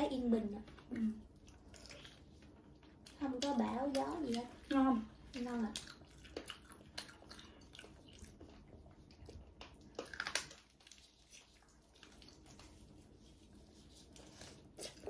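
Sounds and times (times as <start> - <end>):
wet chewing and lip-smacking: 0.7 - 15.0.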